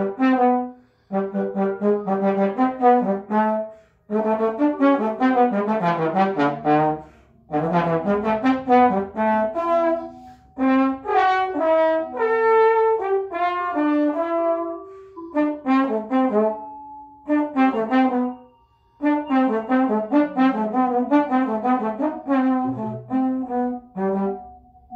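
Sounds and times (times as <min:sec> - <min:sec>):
trombone improvising: 0:00.0 - 0:24.9.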